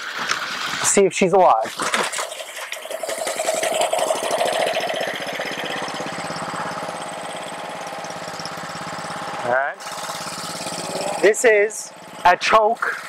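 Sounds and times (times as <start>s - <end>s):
pressure washer engine running: 1.8s - 13.0s.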